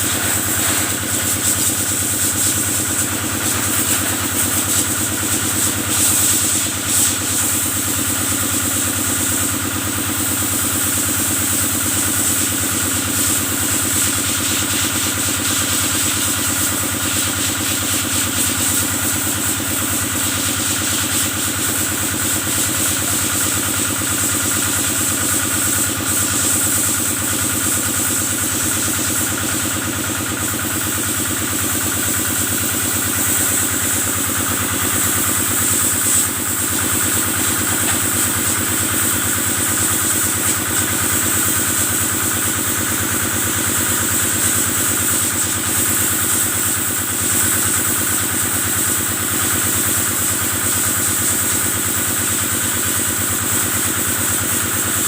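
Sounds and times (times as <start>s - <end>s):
engine running steadily: 0.0s - 55.0s
water sprayer hiss: 0.0s - 55.0s.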